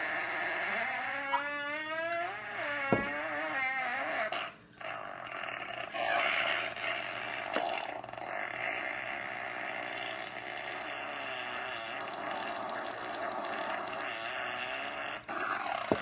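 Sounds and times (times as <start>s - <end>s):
long fart sound effect: 0.0s - 16.0s.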